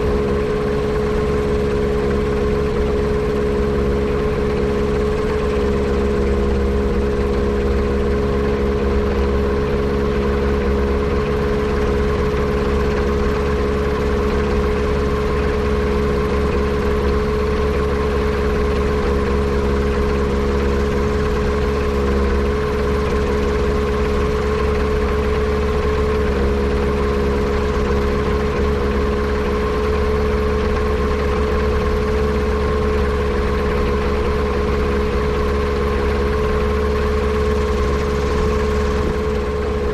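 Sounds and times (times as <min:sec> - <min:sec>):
aircraft engine running steadily: 0:00.0 - 0:39.9.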